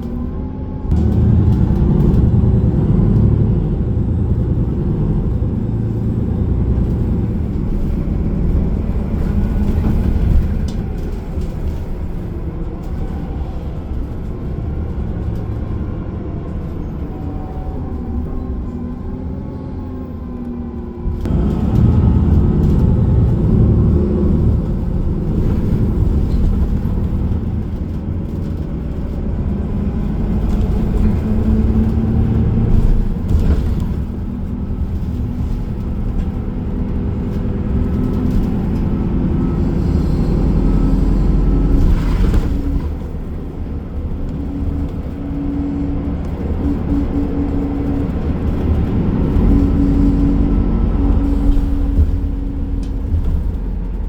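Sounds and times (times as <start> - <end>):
bus engine running: 0.0 - 54.0
road rumble: 0.0 - 54.0.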